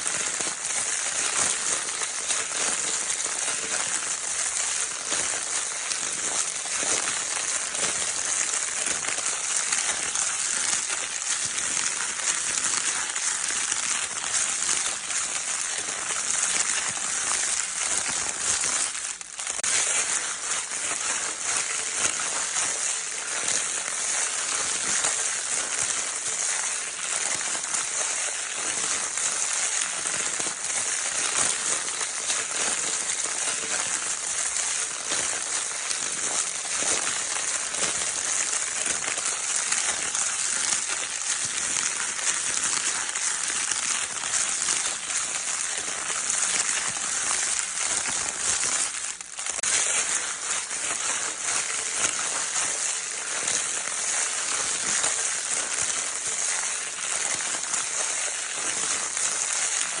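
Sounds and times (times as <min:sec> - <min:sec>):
crinkle paper toy crackling: 0:00.0 - 1:00.0.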